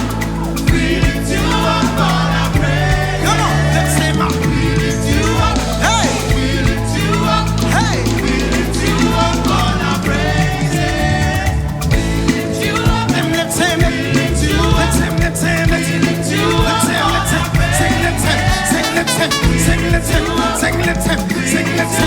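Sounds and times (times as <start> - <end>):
gospel band playing: 0.0 - 22.0
people singing: 0.0 - 22.0.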